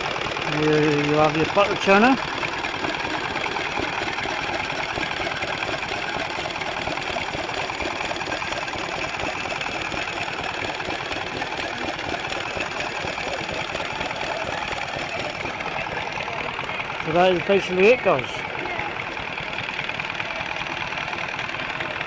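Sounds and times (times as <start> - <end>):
machinery clattering: 0.0 - 22.0.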